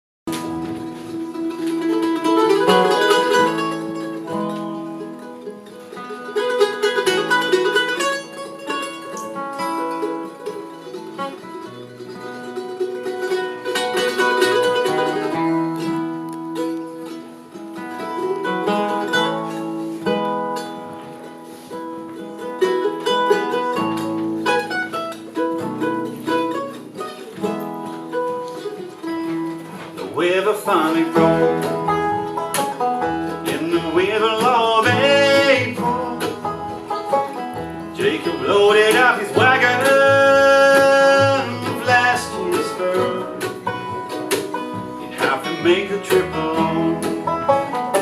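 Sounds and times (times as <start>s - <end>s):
bluegrass band playing: 0.3s - 48.0s.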